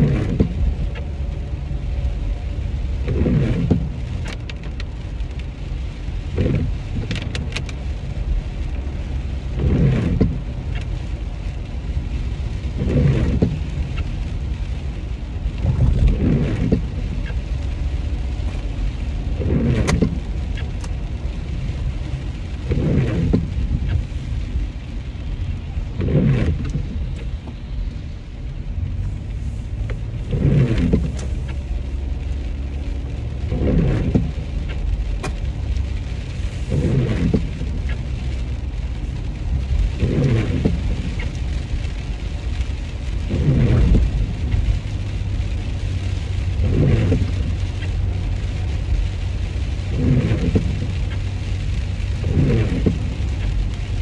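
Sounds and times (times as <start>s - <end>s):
low road rumble: 0.0s - 54.0s
rain on glass: 0.0s - 54.0s
windshield wipers sweeping: 0.0s - 54.0s.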